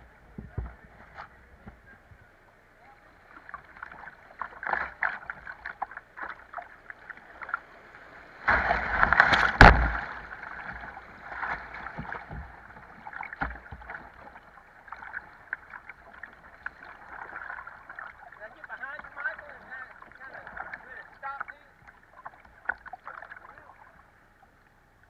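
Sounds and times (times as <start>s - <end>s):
river water rushing and splashing: 3.3s - 24.2s.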